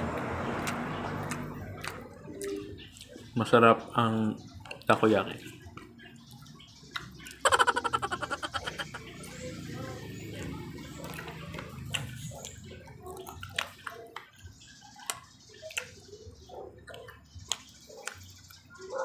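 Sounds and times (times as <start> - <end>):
wet chewing and mouth smacking: 0.2 - 3.4, 4.6 - 19.0.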